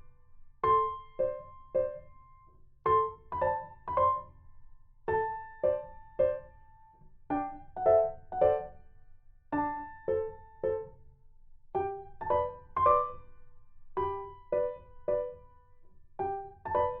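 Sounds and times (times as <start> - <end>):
simple piano melody: 0.0 - 17.0.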